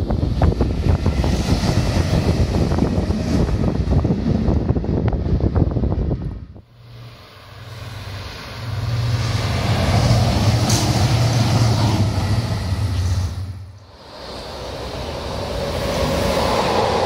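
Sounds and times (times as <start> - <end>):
train wheels rumbling on rails: 0.0 - 17.0
wind buffeting microphone: 0.0 - 17.0.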